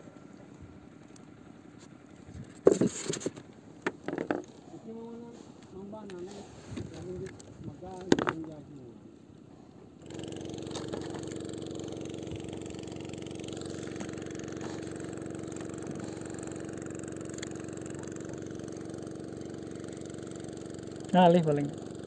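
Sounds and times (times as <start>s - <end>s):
small engine humming: 0.0s - 22.0s.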